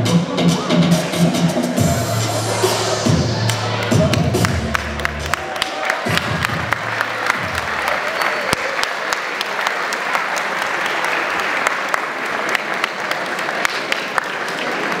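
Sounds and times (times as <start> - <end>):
crowd applauding: 3.0 - 15.0.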